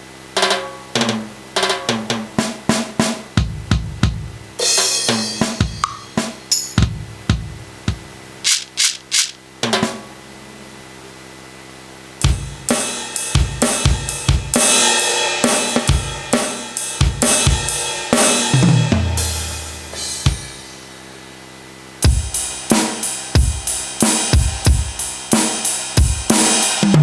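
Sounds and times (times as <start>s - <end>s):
drum and cymbal hits: 0.0s - 10.2s, 12.2s - 21.2s, 22.0s - 27.0s.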